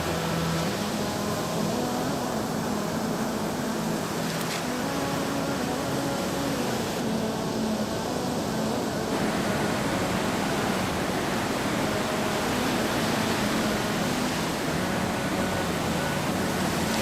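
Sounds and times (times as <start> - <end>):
heavy sea surf breaking: 0.0 - 17.0.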